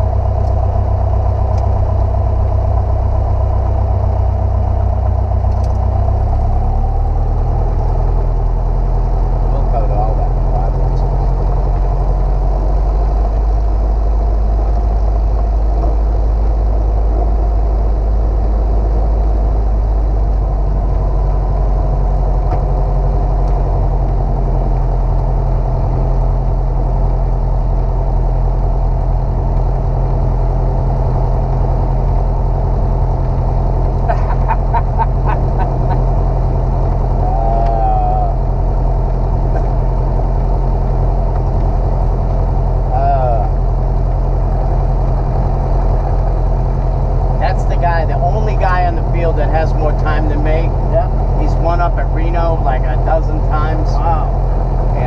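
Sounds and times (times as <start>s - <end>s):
light airplane engine drone: 0.0s - 55.0s.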